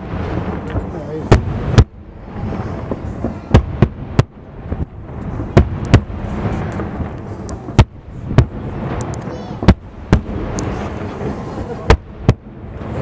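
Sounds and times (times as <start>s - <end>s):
fireworks bursting: 0.0s - 13.0s
low background rumble: 0.0s - 13.0s.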